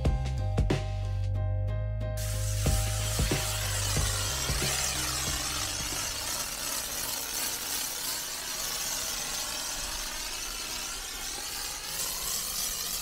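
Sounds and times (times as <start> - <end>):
pressure washer spray hissing: 2.2 - 13.0.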